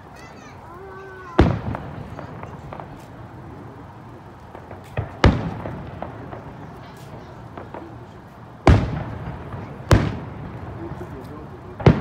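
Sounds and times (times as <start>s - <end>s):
firework cracks: 0.0s - 12.0s
firework booms with echo: 1.2s - 3.5s, 4.4s - 12.0s.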